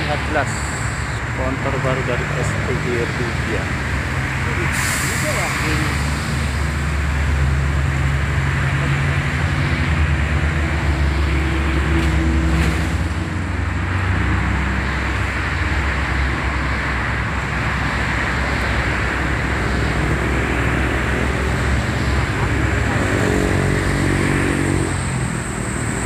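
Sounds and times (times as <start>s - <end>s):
bus diesel engine at low speed: 0.0s - 26.0s
traffic noise: 0.0s - 26.0s.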